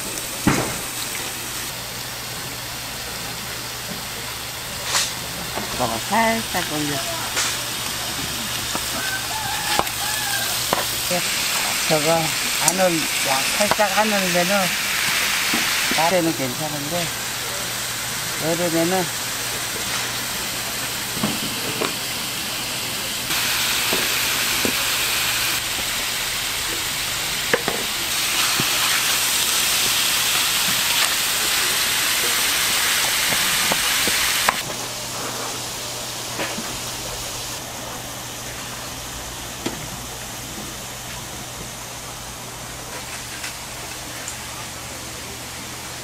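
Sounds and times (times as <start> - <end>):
meat sizzling on a grill: 0.0 - 46.0.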